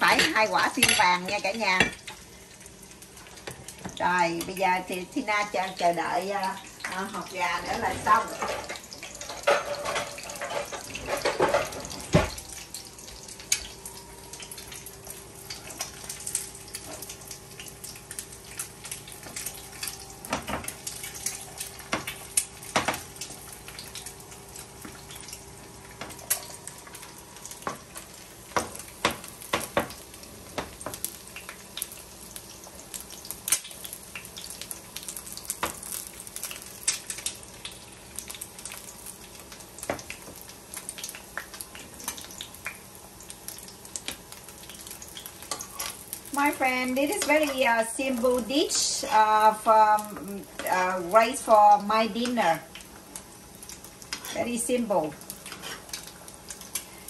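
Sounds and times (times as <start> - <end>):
eggs sizzling in oil: 0.0 - 57.0.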